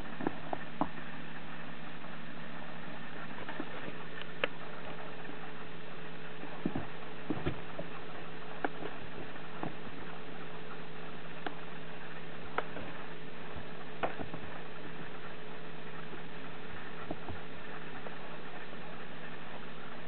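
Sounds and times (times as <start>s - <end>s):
faint low hum: 0.0s - 20.0s
steady hiss: 0.0s - 20.0s.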